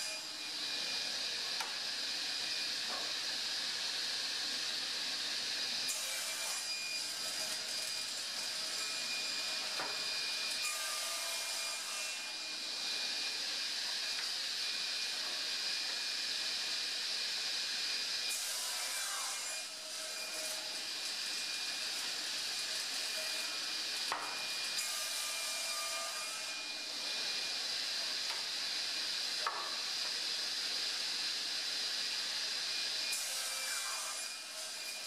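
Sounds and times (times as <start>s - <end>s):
panel saw cutting wood: 4.6s - 35.0s.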